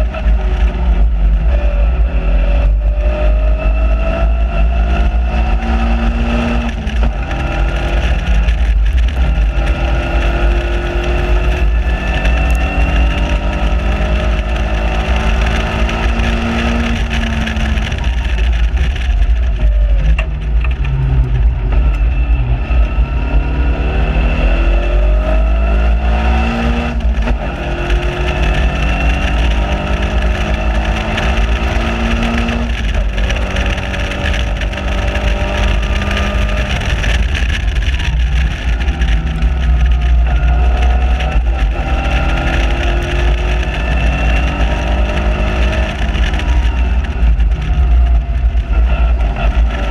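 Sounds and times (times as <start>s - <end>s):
car engine at full throttle: 0.0s - 49.9s.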